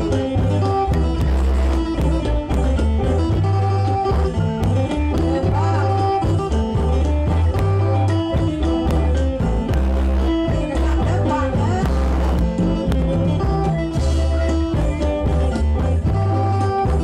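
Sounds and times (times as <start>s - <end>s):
drum beat: 0.0s - 17.0s
khaen mouth organs playing chords: 0.0s - 17.0s.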